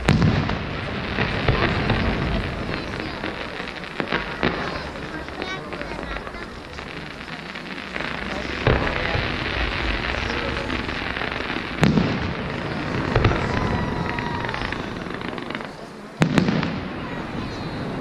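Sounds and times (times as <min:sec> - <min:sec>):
firework shells bursting with bangs: 0:00.0 - 0:17.0
crackle of burning fireworks: 0:00.0 - 0:18.0.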